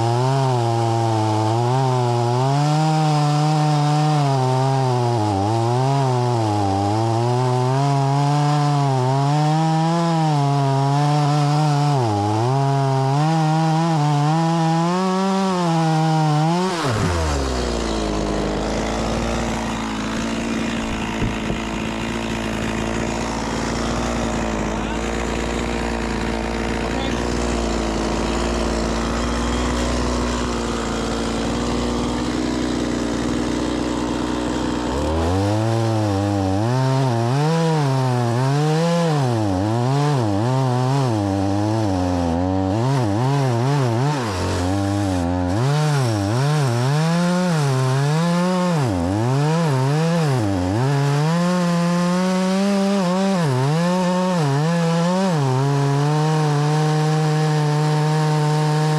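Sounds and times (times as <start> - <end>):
chainsaw revving and cutting logs: 0.0 - 58.9.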